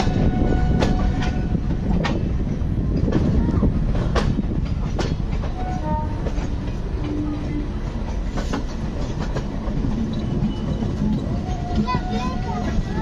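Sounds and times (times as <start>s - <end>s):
wheels clacking over rail joints: 0.0s - 13.0s
wheels rumbling on track: 0.0s - 13.0s.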